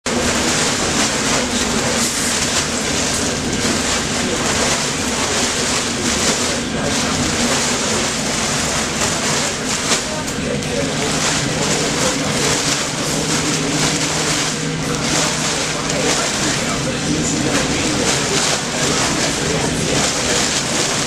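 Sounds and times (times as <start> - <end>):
rotating drum mixer running: 0.0 - 21.0.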